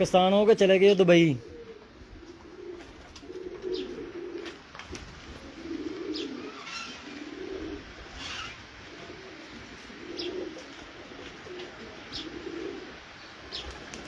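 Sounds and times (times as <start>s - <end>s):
pigeons cooing: 1.2s - 14.0s.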